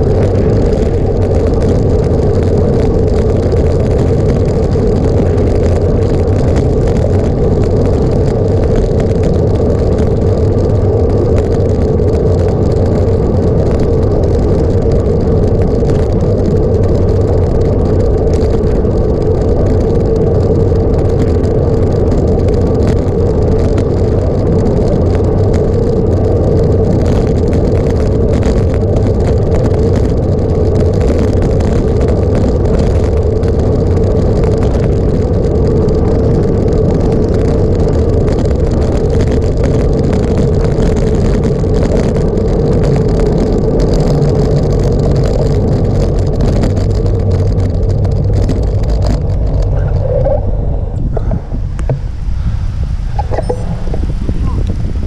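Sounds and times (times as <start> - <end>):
vehicle running noise: 0.0 - 55.0.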